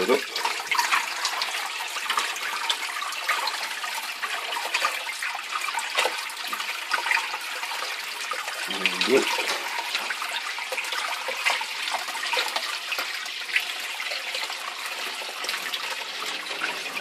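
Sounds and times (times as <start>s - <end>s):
bucket overflowing into tank: 0.0s - 17.0s
water splashing into bucket: 0.0s - 17.0s.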